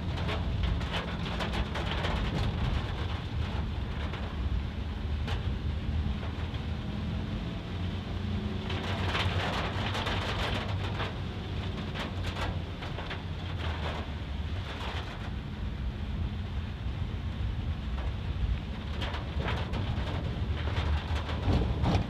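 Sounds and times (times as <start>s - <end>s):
car engine and tyre drone: 0.0s - 22.0s
rain hissing on car: 0.0s - 22.0s.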